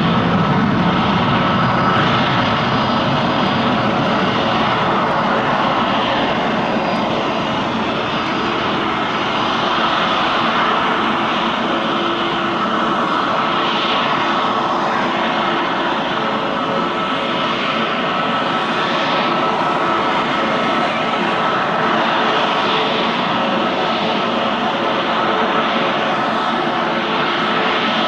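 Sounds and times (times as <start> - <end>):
jet engine roar: 0.0 - 28.0
jet engine whine: 0.0 - 28.0.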